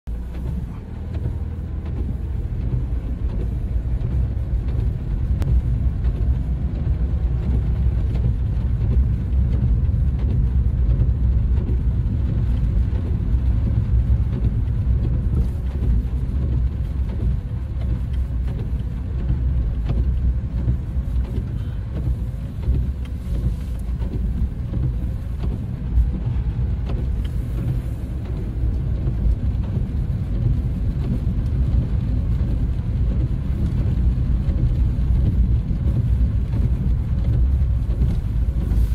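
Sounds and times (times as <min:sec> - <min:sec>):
car rolling on wet pavement: 0:00.1 - 0:38.9.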